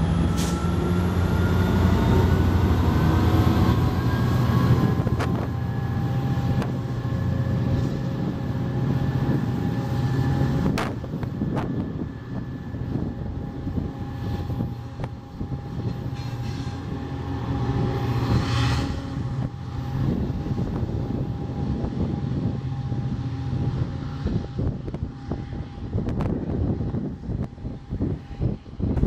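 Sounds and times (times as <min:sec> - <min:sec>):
diesel locomotive running: 0:00.0 - 0:29.0.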